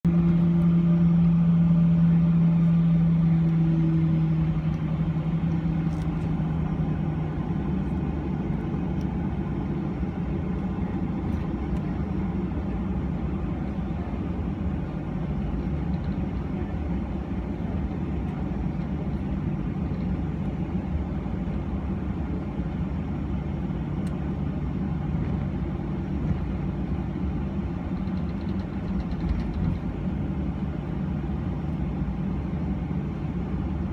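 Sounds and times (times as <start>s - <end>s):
aircraft cabin rumble and hum: 0.0s - 33.9s.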